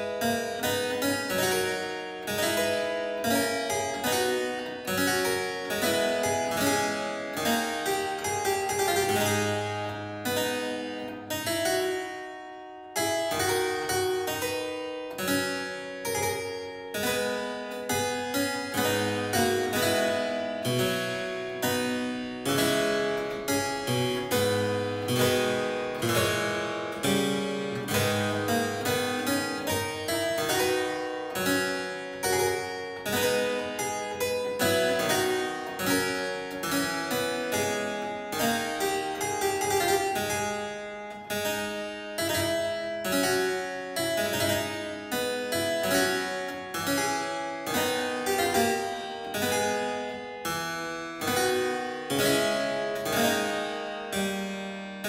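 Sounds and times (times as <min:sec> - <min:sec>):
harpsichord playing: 0:00.0 - 0:55.0.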